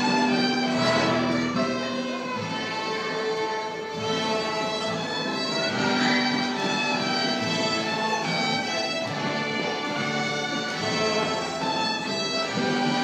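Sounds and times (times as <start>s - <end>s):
children playing fiddles: 0.0s - 13.0s.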